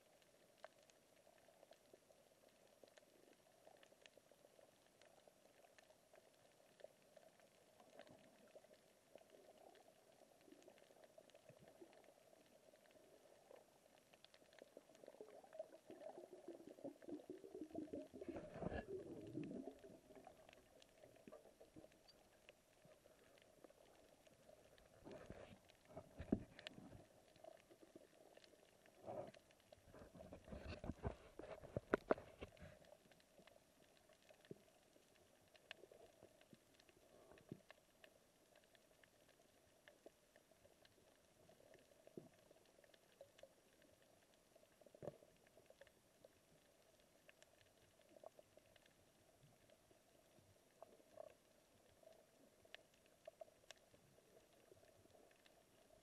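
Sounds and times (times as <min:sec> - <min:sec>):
underwater clicks and crackles: 0:00.0 - 0:56.0.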